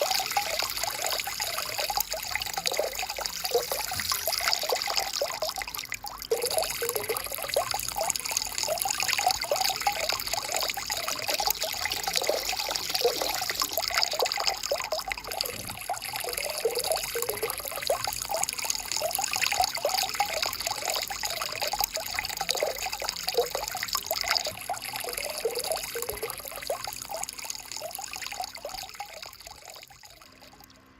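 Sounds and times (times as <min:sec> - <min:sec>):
small stream bubbling: 0:00.0 - 0:30.9.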